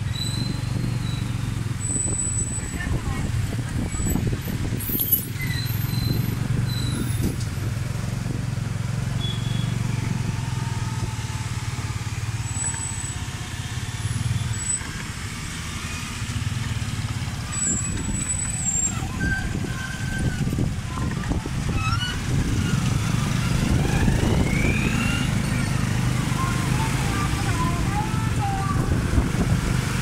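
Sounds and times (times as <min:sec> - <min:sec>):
motorcycle engine running: 0:00.0 - 0:04.9, 0:05.8 - 0:30.0
street traffic: 0:00.0 - 0:30.0.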